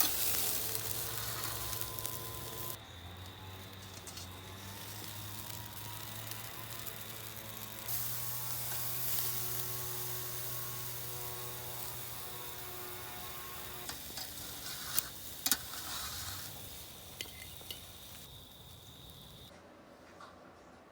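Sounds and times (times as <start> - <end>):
food sizzling on a grill: 0.0 - 19.5.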